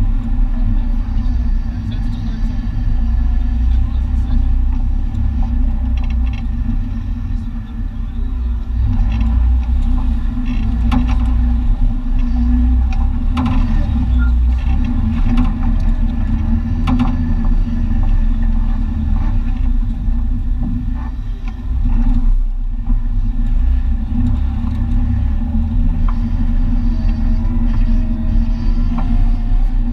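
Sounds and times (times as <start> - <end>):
knocks and rattles of truck: 0.0 - 29.9
truck engine droning: 0.0 - 29.9.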